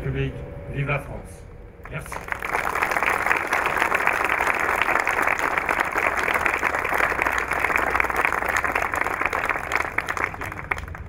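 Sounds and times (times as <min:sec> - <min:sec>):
crowd applauding: 0:01.8 - 0:11.0.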